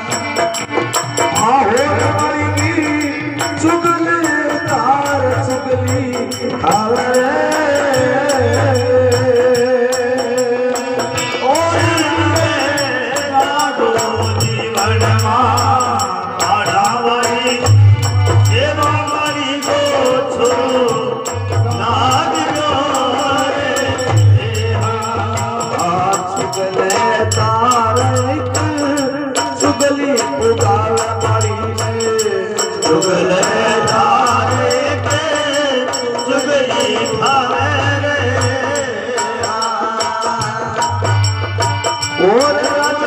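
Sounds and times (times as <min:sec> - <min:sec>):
person singing: 0:00.0 - 0:43.0
rattling percussion: 0:00.0 - 0:43.0.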